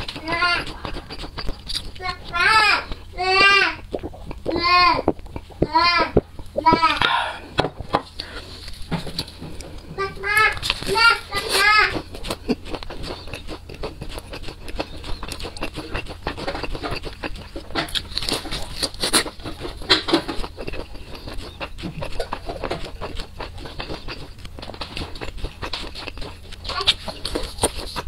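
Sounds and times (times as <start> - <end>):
wet mouth clicks: 0.0 - 9.9, 10.6 - 28.0
chewing crunchy food: 0.0 - 28.0.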